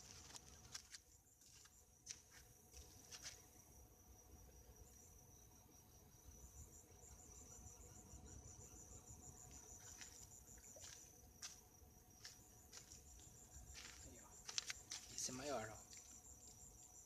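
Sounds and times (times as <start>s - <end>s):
insect pulsing trill: 0.0s - 17.0s
insect steady high tone: 0.0s - 17.0s.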